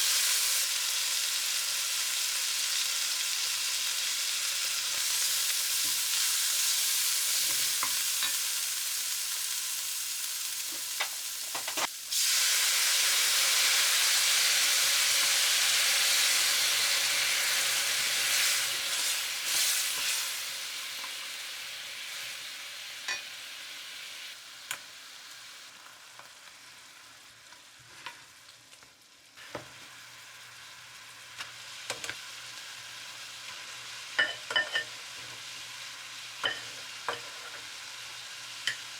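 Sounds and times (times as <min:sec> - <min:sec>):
rice sizzling in a frying pan: 0:00.0 - 0:38.9.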